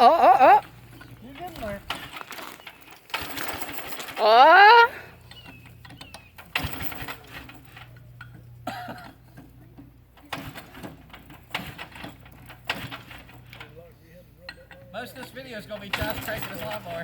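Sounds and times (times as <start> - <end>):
lawnmower engine cranking: 0.0 - 13.8, 14.5 - 17.0.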